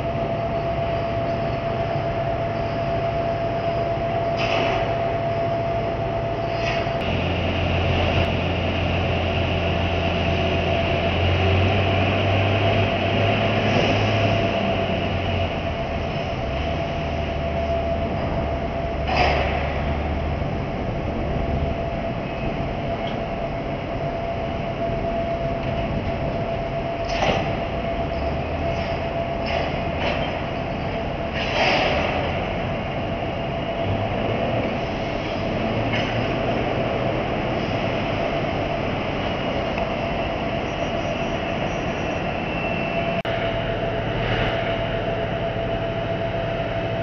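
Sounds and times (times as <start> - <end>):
deep drone: 0.0 - 47.0
ship engine rumble: 0.0 - 47.0.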